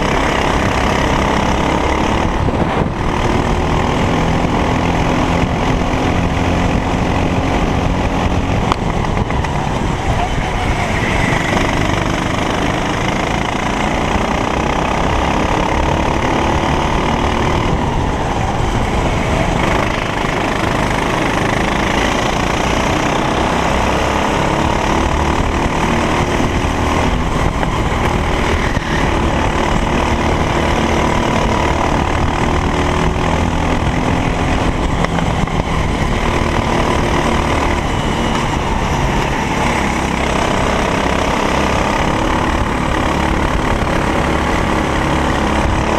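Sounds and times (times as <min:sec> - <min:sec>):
racing kart engine running hard: 0:00.0 - 0:45.9.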